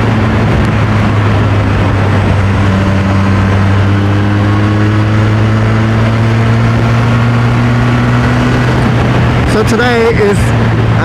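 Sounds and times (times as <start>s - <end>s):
motorcycle engine running: 0.0s - 11.0s
steady rush of noise: 0.0s - 11.0s.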